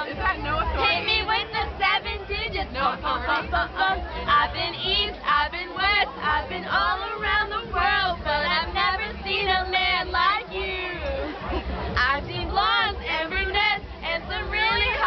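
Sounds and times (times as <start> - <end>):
low bass: 0.0 - 15.0
people singing in high voices: 0.0 - 15.0.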